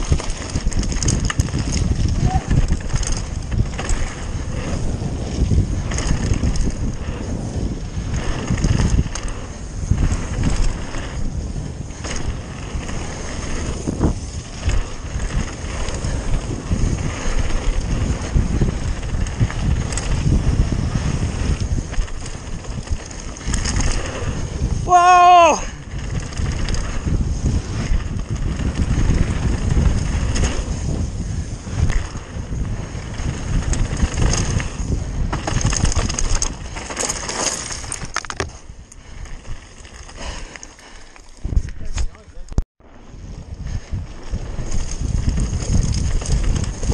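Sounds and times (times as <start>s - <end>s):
tyres rumbling on gravel: 0.0s - 41.0s
bike clicks and knocks: 0.0s - 42.6s, 43.7s - 46.9s
wind on microphone: 0.0s - 46.9s.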